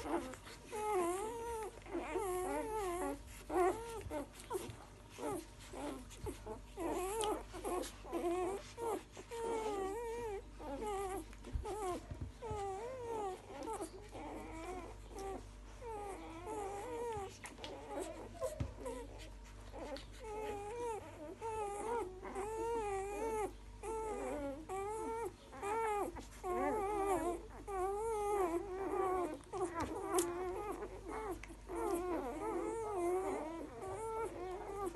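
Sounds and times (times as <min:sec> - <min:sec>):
puppies whimpering: 0:00.0 - 0:34.9.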